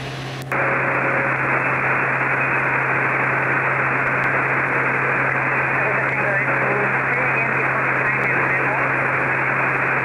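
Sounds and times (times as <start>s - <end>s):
radio static hiss: 0.0s - 10.0s
turboprop engine drone: 0.0s - 10.0s.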